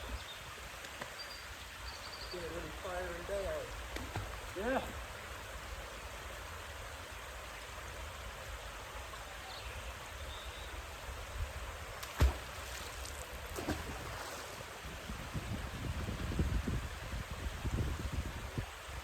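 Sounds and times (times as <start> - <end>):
outdoor hiss with low rumble: 0.0 - 19.0.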